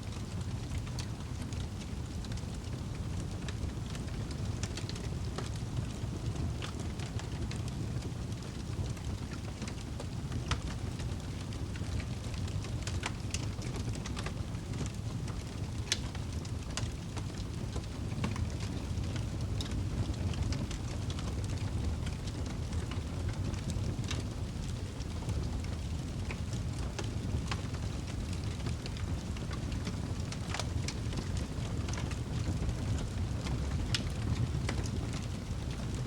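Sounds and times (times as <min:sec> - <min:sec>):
fire rumble and hiss: 0:00.0 - 0:36.0
fire crackling and popping: 0:00.1 - 0:36.0.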